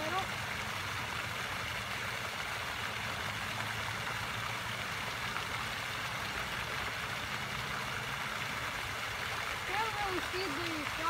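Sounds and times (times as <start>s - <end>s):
fountain splashing into water: 0.0s - 11.0s.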